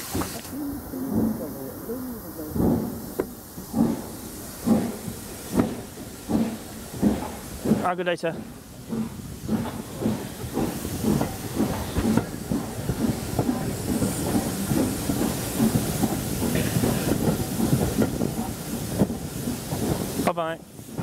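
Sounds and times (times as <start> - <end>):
steam hissing: 0.0 - 21.0
train knocking and rumbling: 0.0 - 21.0.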